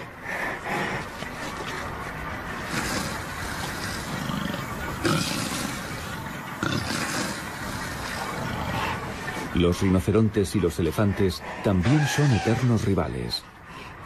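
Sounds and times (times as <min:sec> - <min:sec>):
deep rough animal calls: 0:00.0 - 0:09.6, 0:10.9 - 0:13.0
loud animal calls: 0:00.0 - 0:09.6, 0:10.9 - 0:13.3.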